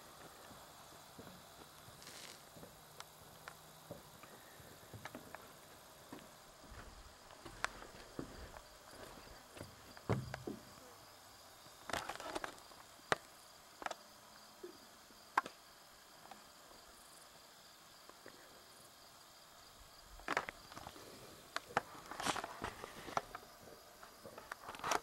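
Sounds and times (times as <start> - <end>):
faint insect hum: 0.0 - 25.0.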